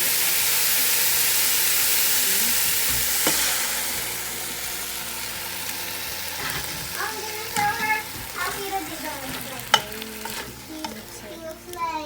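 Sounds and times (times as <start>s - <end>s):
food sizzling in a hot pan: 0.0s - 12.0s.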